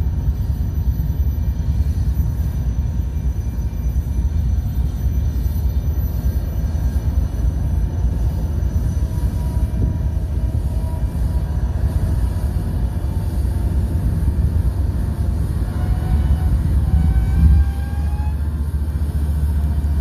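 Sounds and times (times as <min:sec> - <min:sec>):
locomotive engine rumble: 0:00.0 - 0:20.0.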